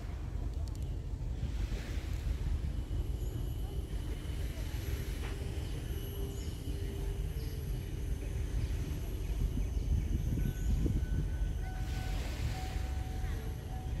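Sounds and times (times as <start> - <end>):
faint steady tones: 0.0 - 14.0
wind buffeting microphone: 0.0 - 14.0.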